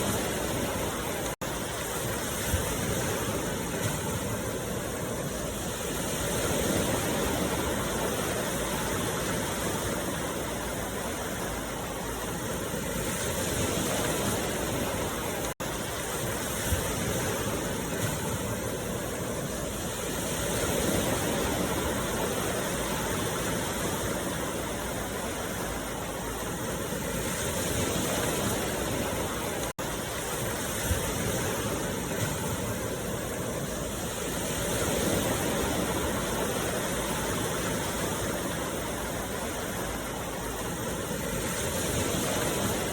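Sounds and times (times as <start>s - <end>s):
steady rushing noise: 0.0s - 42.9s.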